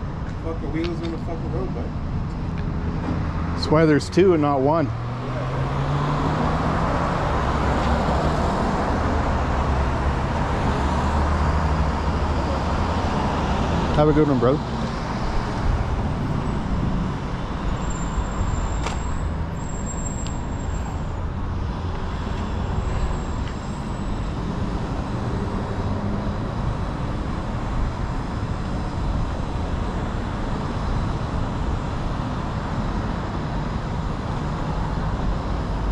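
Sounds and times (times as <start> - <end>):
cars and trucks driving past: 0.0 - 35.9.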